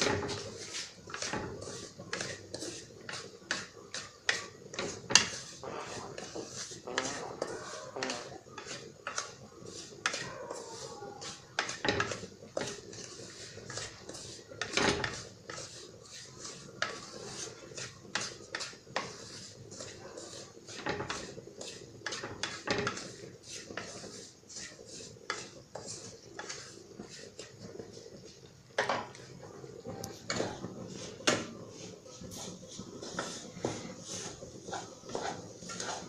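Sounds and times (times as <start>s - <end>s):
spatula scraping a pan: 0.0s - 36.0s.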